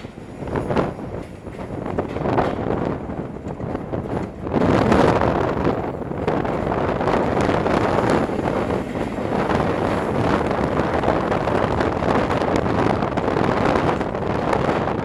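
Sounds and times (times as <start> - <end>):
train carriages running on track: 0.0 - 15.0
wind buffeting microphone: 0.0 - 15.0.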